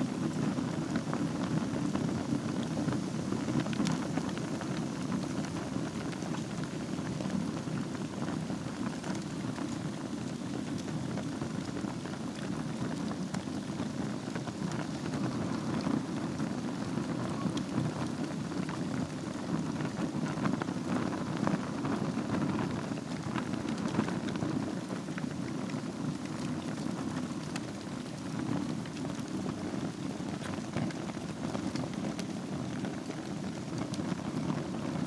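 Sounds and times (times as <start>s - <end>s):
fire crackling and popping: 0.0s - 35.0s
fire rumbling: 0.0s - 35.0s.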